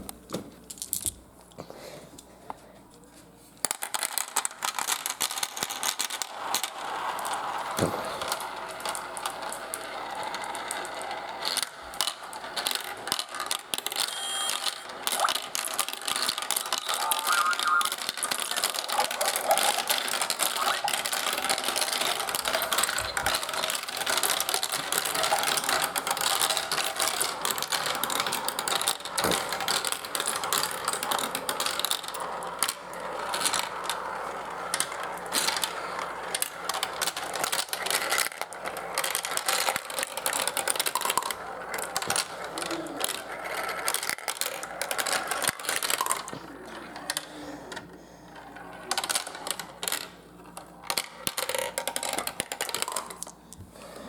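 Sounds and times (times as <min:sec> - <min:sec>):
marbles rattling through marble run: 0:03.7 - 0:47.3, 0:48.4 - 0:53.4.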